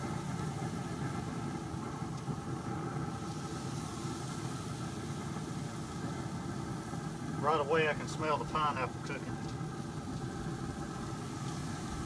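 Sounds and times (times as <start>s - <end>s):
meat sizzling on a grill: 0.0s - 12.0s
steady mechanical hum: 0.0s - 12.0s.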